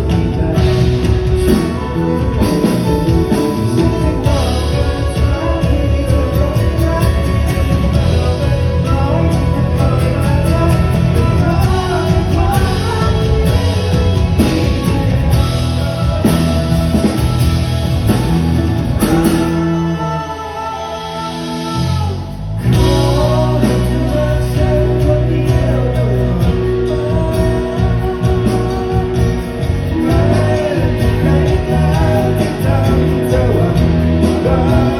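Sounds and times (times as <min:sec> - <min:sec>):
live band playing pop song: 0:00.0 - 0:34.9
person singing: 0:00.0 - 0:34.9.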